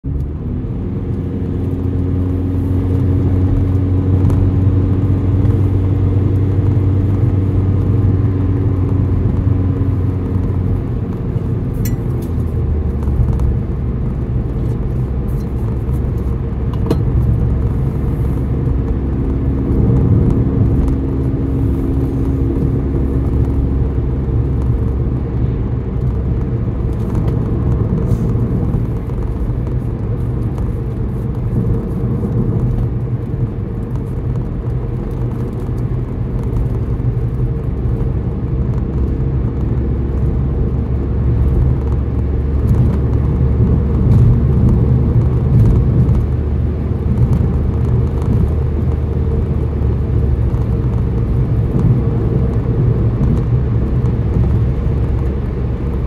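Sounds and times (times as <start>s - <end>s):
car engine and road hum: 0.0s - 56.0s.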